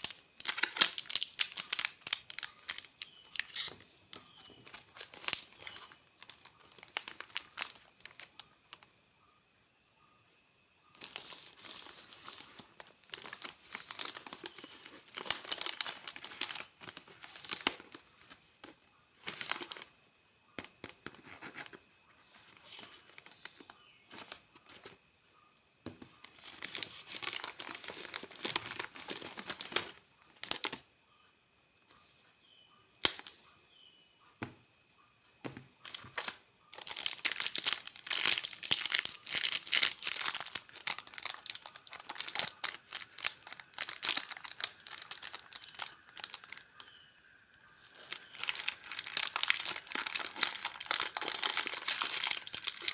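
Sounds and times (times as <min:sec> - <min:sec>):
plastic packaging crinkling: 0:00.0 - 0:08.8, 0:11.0 - 0:19.9, 0:20.6 - 0:25.0, 0:25.9 - 0:30.8, 0:35.8 - 0:46.8, 0:47.9 - 0:52.9.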